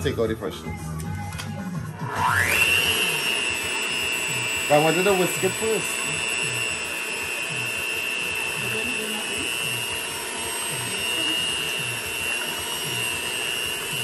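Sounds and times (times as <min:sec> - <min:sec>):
electric mixer whisking eggs: 0:02.0 - 0:14.0.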